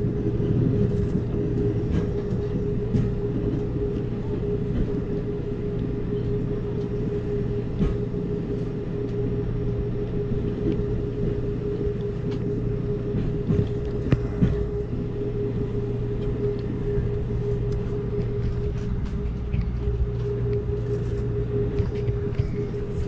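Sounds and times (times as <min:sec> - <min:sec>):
train rumbling over bridge: 0:00.0 - 0:23.0.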